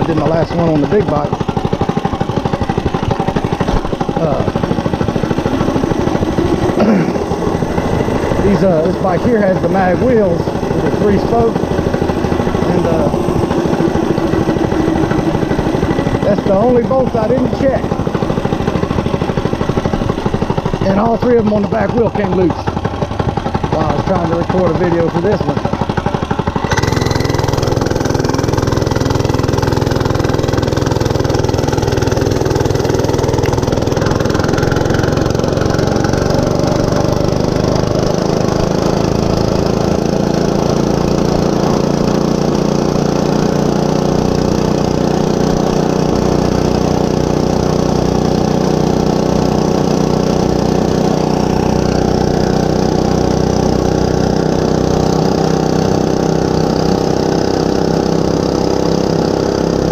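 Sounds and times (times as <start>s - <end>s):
mini bike engine running: 0.0s - 59.9s.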